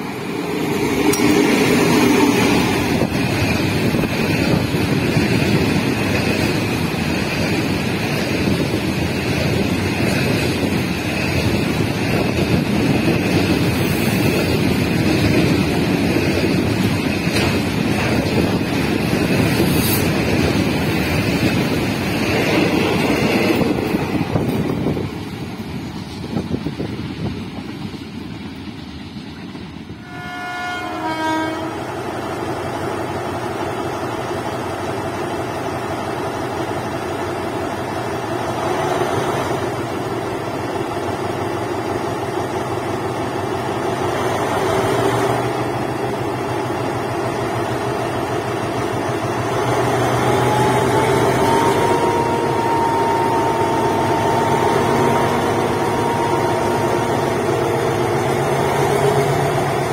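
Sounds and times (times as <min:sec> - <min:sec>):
train carriages rumbling past: 0:00.0 - 0:59.9.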